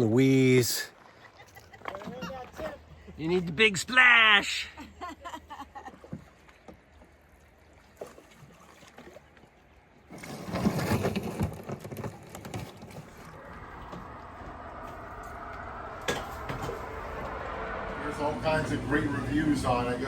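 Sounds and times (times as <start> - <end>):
water splashing around a canoe: 0.1 - 3.8, 4.4 - 18.5.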